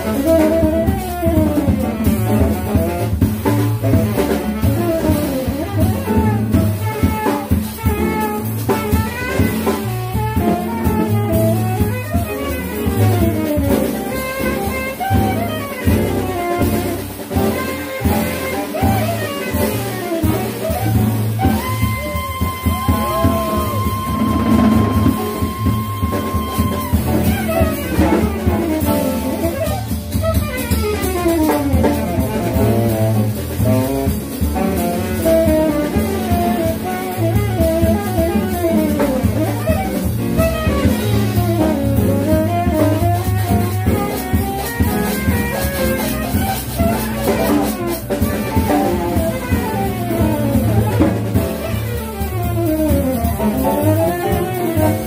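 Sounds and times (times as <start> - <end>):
double bass: 0.0 - 55.0
drum kit with cymbals: 0.0 - 55.0
piano: 0.0 - 55.0
saxophone: 0.0 - 55.0.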